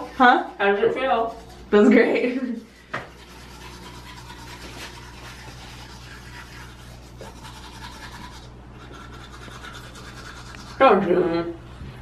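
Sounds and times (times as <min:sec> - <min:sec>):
toothbrush scrubbing teeth: 0:00.0 - 0:11.4
low electrical hum: 0:00.0 - 0:12.0.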